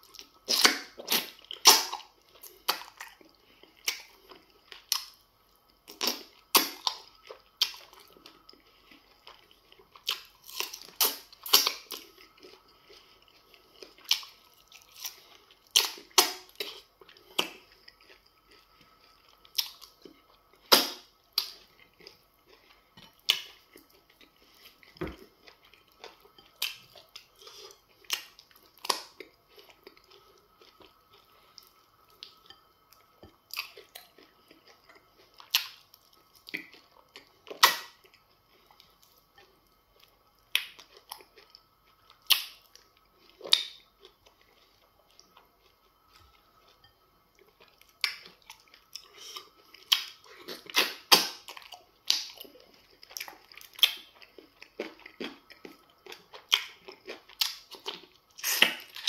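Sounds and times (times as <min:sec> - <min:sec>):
faint steady hum: 0:00.0 - 0:59.0
wet chewing and lip smacks: 0:05.9 - 0:59.0.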